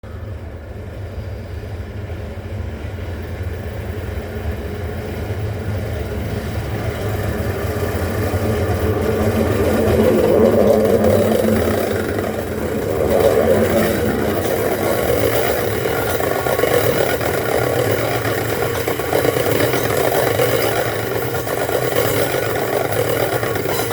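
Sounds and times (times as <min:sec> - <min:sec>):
diesel locomotive engine drone: 0:00.0 - 0:23.9.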